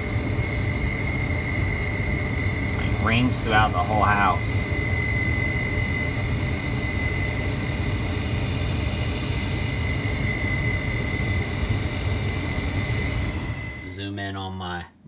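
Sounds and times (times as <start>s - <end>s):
furnace motor whining: 0.0s - 14.1s.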